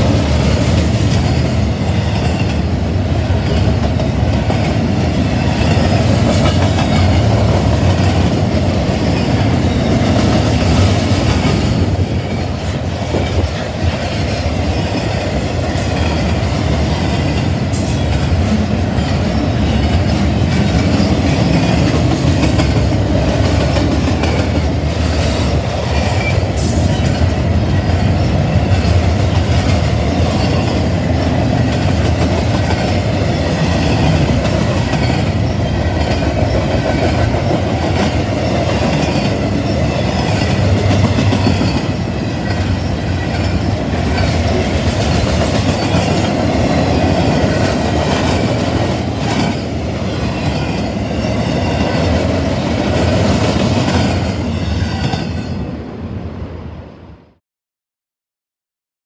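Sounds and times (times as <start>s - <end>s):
train wheels rolling on rails: 0.0s - 56.4s.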